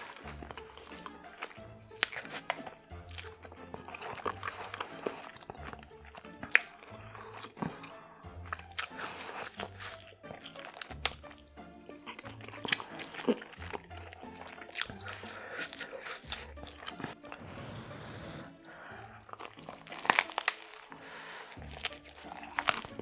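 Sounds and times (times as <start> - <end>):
background music with bass line: 0.0 - 20.2, 21.0 - 23.0
crunchy chewing: 0.0 - 23.0.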